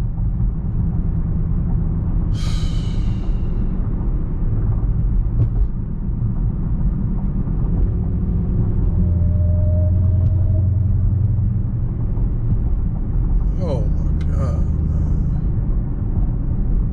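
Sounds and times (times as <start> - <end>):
car engine and road noise: 0.0 - 16.9.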